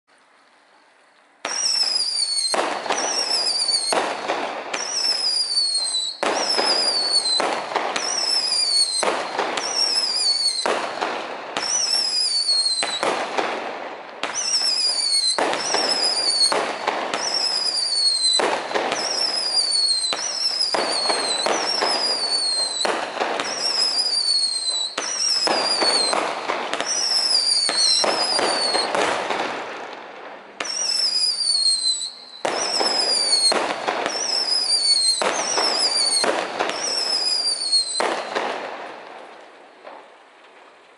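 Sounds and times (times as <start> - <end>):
firework cake shots whistling: 1.4 - 13.6, 14.2 - 29.5, 30.6 - 38.7.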